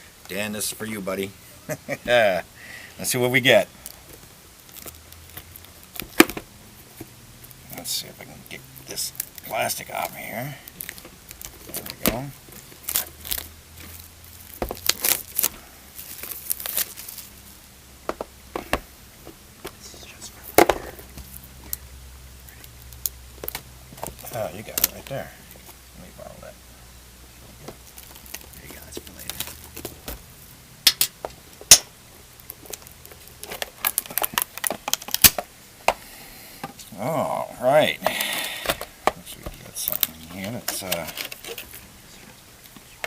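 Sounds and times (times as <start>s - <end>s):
plastic wrap crinkling: 3.0s - 26.5s, 27.3s - 35.6s, 37.0s - 43.0s.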